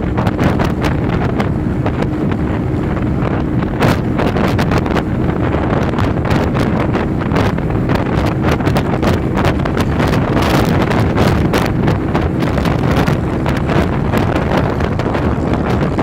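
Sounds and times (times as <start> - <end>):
engine and road noise rumble: 0.0 - 16.0
wind buffeting microphone: 0.0 - 16.0.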